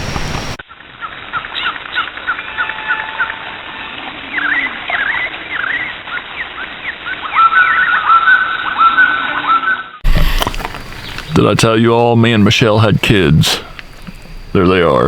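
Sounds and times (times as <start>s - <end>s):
high chirping animal calls: 0.0s - 15.0s.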